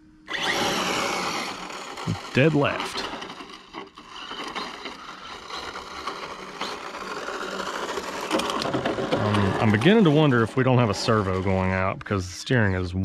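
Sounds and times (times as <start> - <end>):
rc car motor whining: 0.3 - 12.8.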